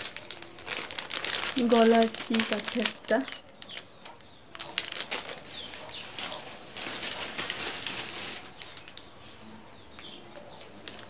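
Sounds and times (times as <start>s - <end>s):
plastic packaging crinkling: 0.0s - 9.2s, 9.9s - 11.0s.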